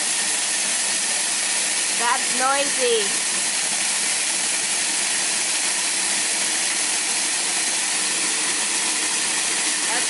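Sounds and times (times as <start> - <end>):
blender grinding dry peas: 0.0 - 10.0.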